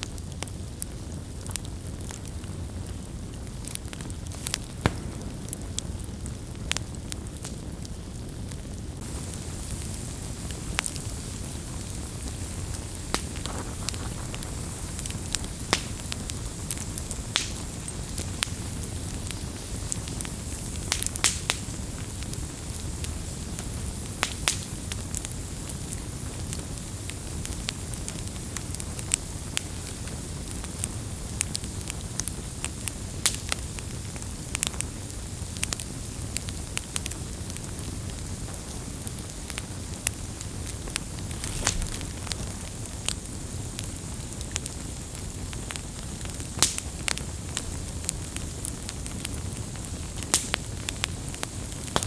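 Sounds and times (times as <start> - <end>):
campfire flame rumbling: 0.0 - 52.0
fire crackling and popping: 0.0 - 52.0.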